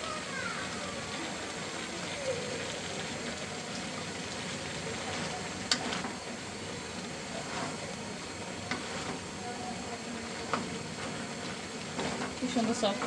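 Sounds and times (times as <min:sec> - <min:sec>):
water boiling in a pan: 0:00.0 - 0:13.0.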